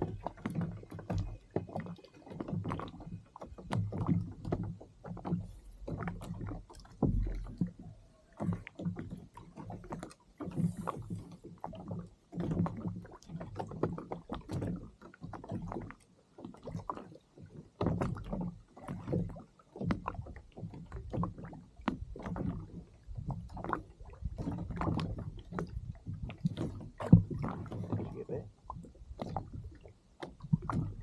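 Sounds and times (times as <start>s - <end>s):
water slapping against kayak hull: 0.0s - 31.0s.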